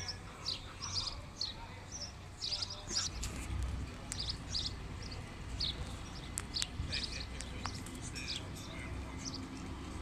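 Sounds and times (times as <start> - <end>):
bus engines rumbling: 0.0 - 10.0
small birds chirping: 0.0 - 10.0.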